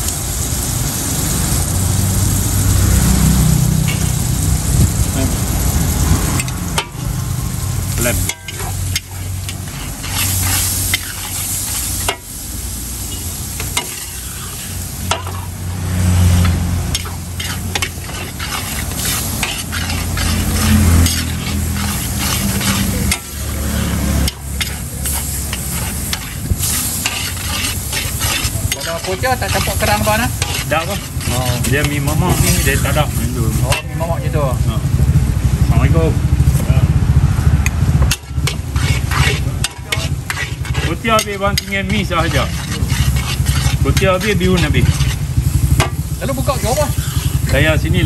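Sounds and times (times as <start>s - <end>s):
food sizzling: 0.0s - 48.0s
metal spatula scraping a wok: 3.1s - 34.3s, 38.1s - 48.0s.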